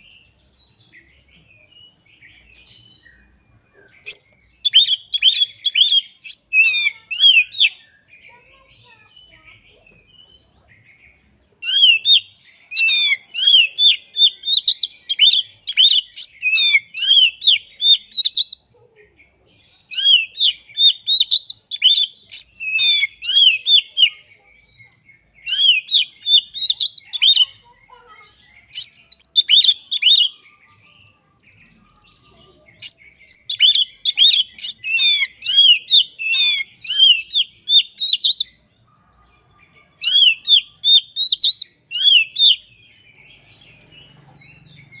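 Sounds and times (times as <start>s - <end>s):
bird singing whistled notes: 0.0s - 18.8s, 19.6s - 45.0s.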